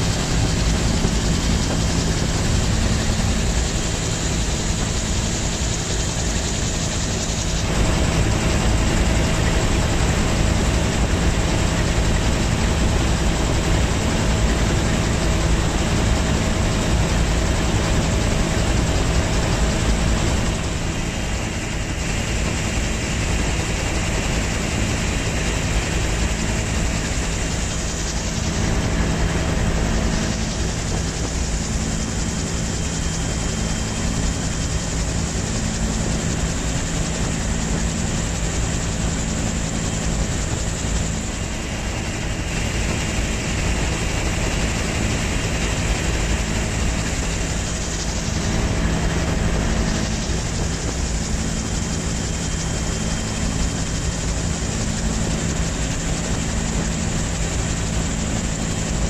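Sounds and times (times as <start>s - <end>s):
broad rushing noise: 0.0s - 59.0s.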